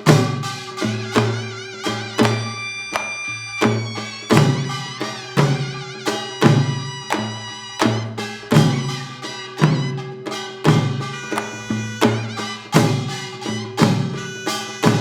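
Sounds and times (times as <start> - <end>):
hand drum strikes: 0.0 - 15.0.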